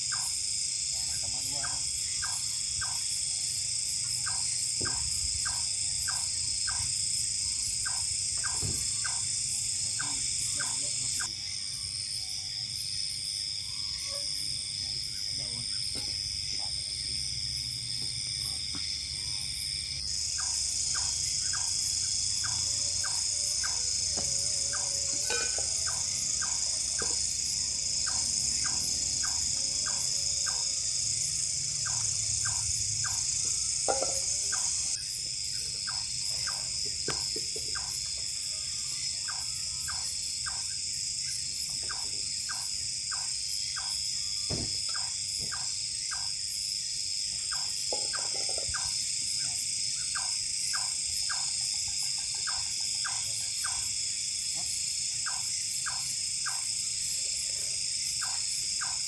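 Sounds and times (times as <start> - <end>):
crickets and insects trilling: 0.0 - 59.0
high insect trilling layer: 0.0 - 59.0.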